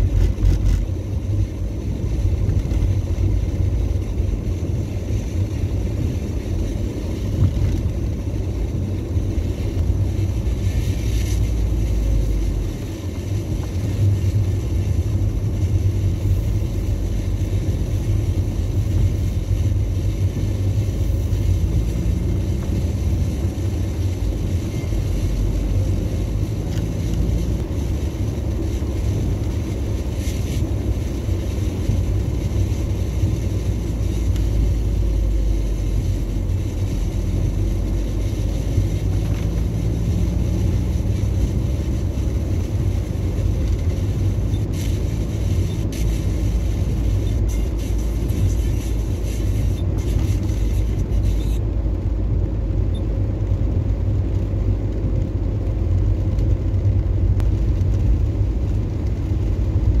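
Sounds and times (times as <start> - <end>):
car driving on wet road: 0.0 - 60.0.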